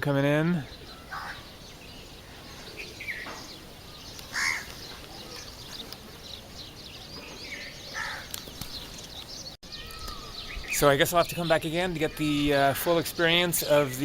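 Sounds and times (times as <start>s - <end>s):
birds chirping: 0.0s - 14.0s
harsh bird calls: 0.0s - 14.0s.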